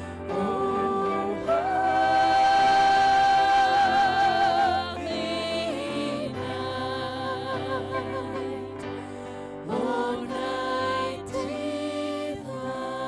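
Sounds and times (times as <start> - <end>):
worship music with singing: 0.0 - 13.0.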